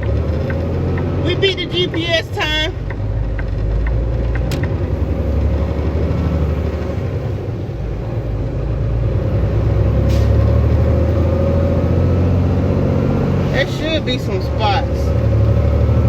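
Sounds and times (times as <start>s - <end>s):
road noise: 0.0s - 16.0s
truck diesel engine rumble: 0.0s - 16.0s.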